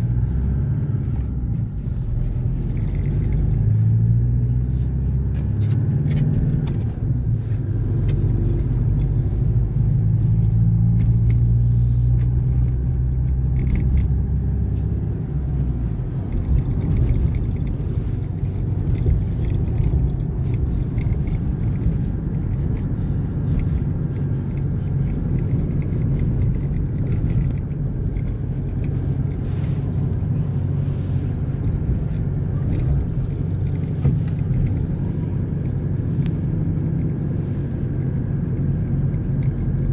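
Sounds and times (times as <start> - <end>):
car engine hum: 0.0 - 39.9
road rumble: 0.0 - 39.9.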